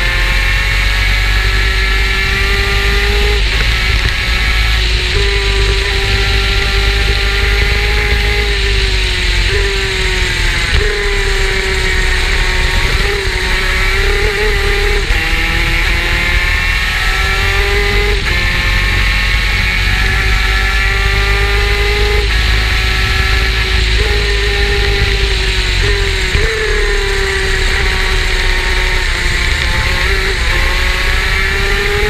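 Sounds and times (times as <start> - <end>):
two-stroke racing engine: 0.0 - 32.0.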